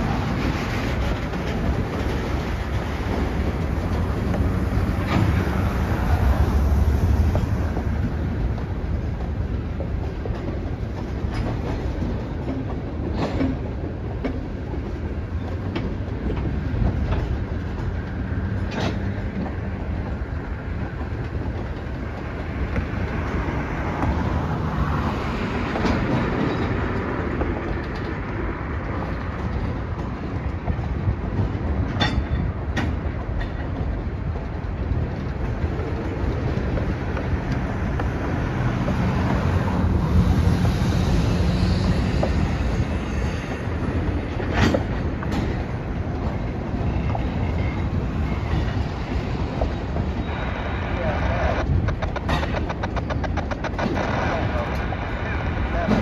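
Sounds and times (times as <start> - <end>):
train wheels rumbling on rail: 0.0 - 56.0
clanks from wheels and couplers: 7.0 - 24.2, 25.6 - 50.3, 51.6 - 56.0.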